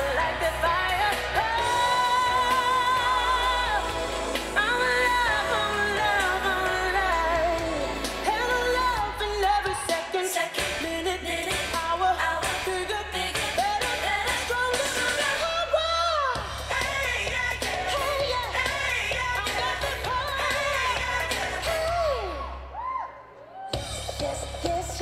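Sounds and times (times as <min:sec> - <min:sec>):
pop song with singing voice: 0:00.0 - 0:25.0.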